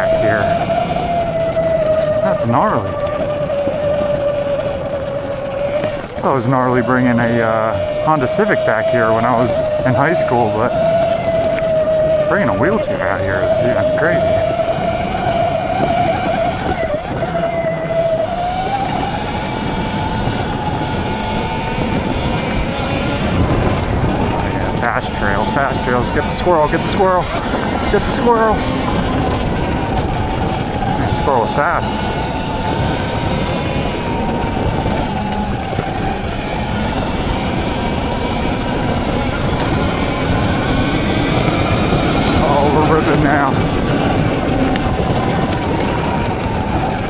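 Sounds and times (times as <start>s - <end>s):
dense low rumble: 0.0s - 47.0s
electric motorbike motor whining: 0.0s - 47.0s
tyres on dirt: 0.0s - 47.0s
wind rushing over microphone: 0.0s - 47.0s.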